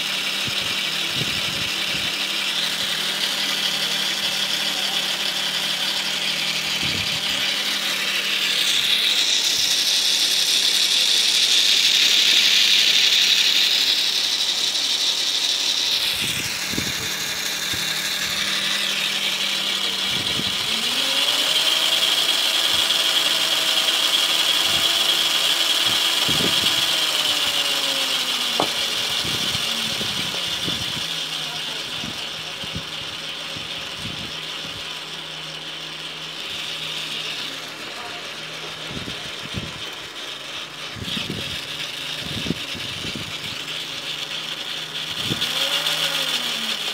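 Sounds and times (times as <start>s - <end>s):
small motor whine: 0.0s - 46.9s.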